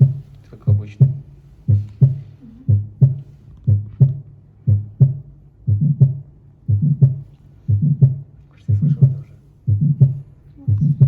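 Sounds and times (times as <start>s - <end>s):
heartbeat through stethoscope: 0.0s - 11.0s.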